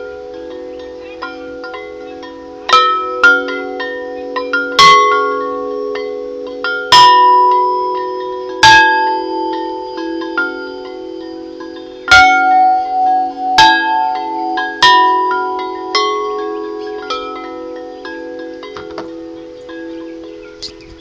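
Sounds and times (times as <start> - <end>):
aluminum wind chimes ringing: 0.0 - 21.0.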